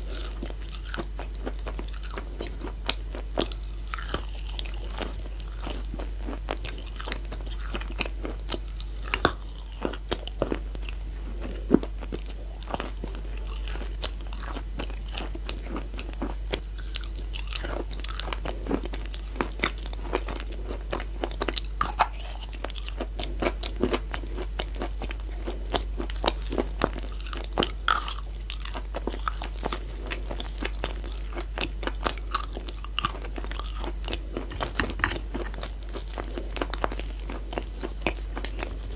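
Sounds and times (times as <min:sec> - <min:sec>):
chalk crunching and chewing: 0:00.0 - 0:38.9.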